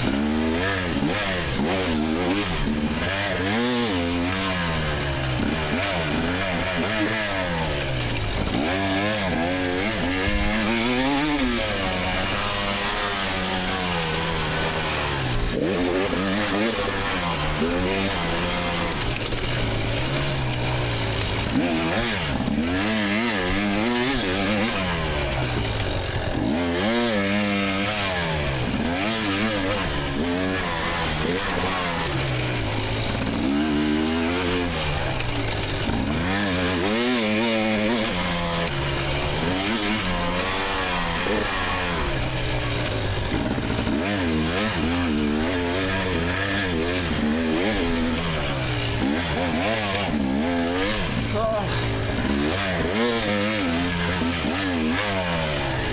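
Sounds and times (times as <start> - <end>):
two-stroke engine revving: 0.0 - 55.9.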